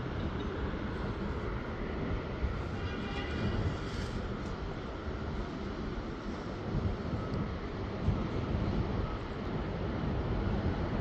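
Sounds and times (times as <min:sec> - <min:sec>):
train passing with low rumble: 0:00.0 - 0:11.0.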